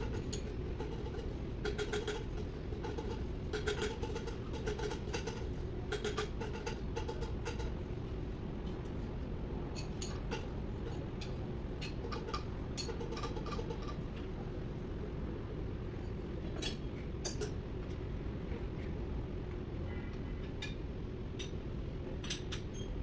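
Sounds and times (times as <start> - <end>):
low workshop hum: 0.0 - 23.0.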